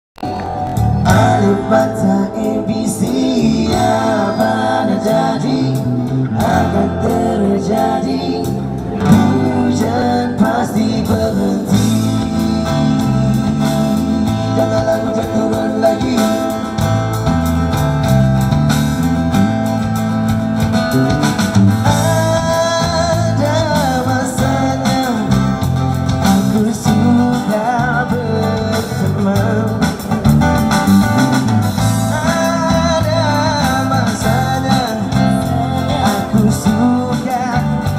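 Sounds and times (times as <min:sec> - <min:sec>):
acoustic guitar: 0:00.2 - 0:37.9
bass line: 0:00.2 - 0:37.9
drums: 0:00.2 - 0:37.9.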